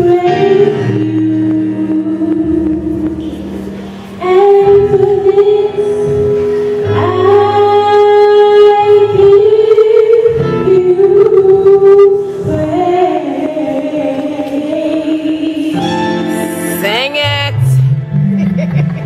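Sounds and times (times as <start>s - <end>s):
woman singing into a microphone: 0.0s - 16.7s.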